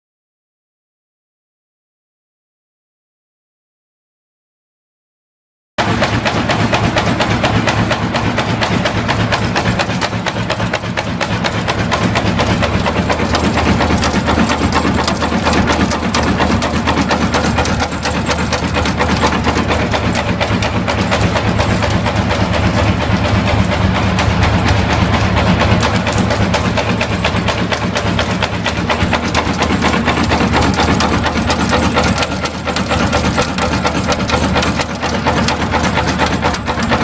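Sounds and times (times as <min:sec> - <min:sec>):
machine mechanical clatter: 0:05.8 - 0:37.0
motor hum: 0:05.8 - 0:37.0.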